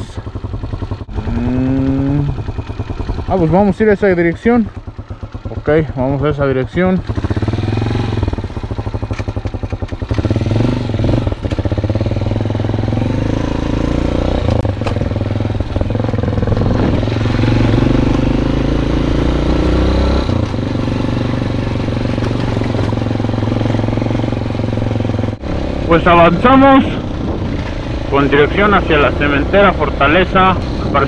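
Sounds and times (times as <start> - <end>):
motorcycle engine: 0.0 - 31.0.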